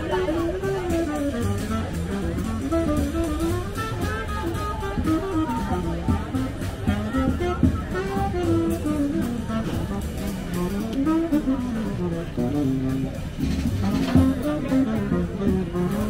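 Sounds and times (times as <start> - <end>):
jazz music with guitar: 0.0 - 16.0.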